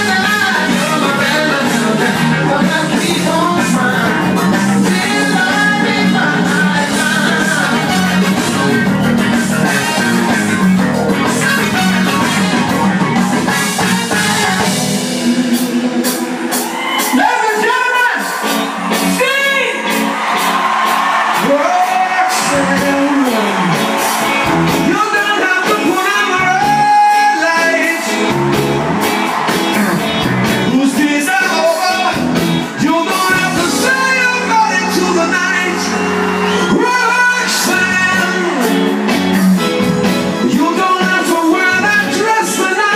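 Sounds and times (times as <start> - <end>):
loud music with singing: 0.0 - 42.9.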